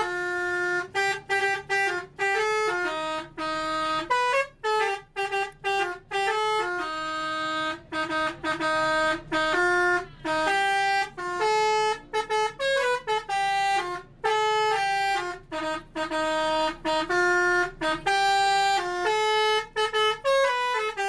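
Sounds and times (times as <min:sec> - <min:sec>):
truck air horn playing melody: 0:00.0 - 0:21.0.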